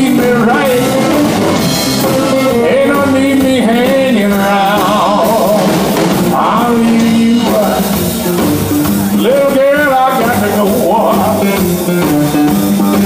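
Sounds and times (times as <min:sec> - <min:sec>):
bass guitar: 0:00.0 - 0:13.0
drum kit: 0:00.0 - 0:13.0
electric guitar bending notes: 0:00.0 - 0:13.0.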